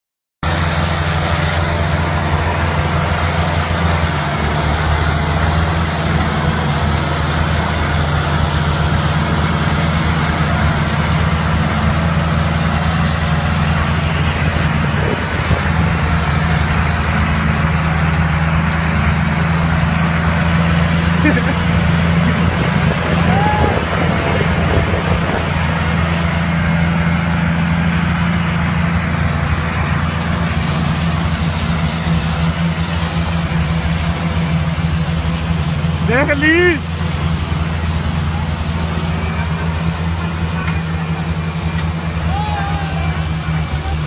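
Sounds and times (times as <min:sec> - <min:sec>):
tractor engines droning: 0:00.4 - 0:44.0.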